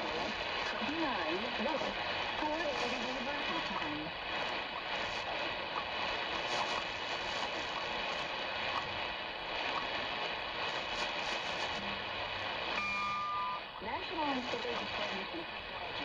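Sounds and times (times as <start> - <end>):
shortwave radio static: 0.0 - 16.0.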